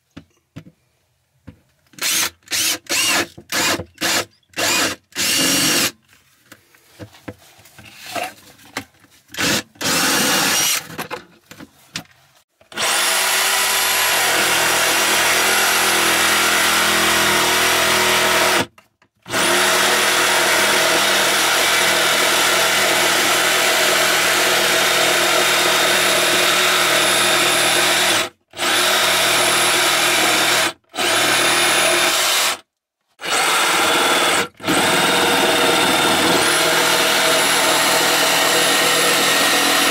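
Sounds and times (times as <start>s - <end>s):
jigsaw cutting wood: 2.0s - 6.0s, 9.4s - 10.9s, 12.7s - 32.6s, 33.2s - 39.9s.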